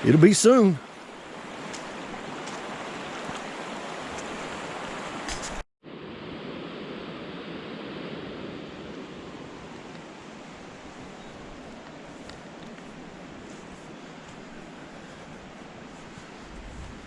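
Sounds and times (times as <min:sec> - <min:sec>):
rushing creek: 0:00.0 - 0:05.6, 0:07.7 - 0:17.0.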